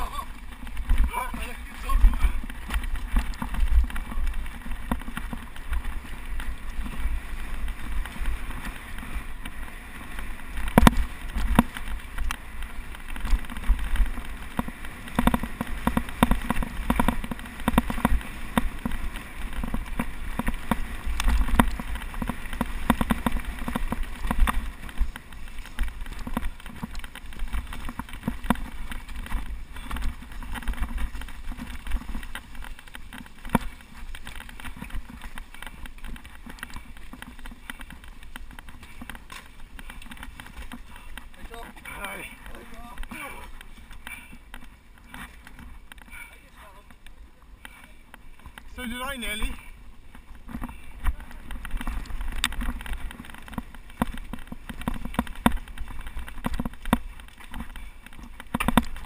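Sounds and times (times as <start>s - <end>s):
mountain bike rattling over rocks: 0.0s - 59.0s.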